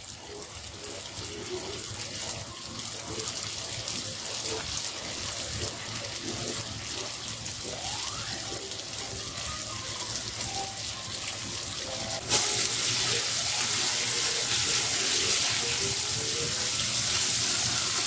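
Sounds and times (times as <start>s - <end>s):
oil sizzling in deep frying: 0.0s - 18.0s.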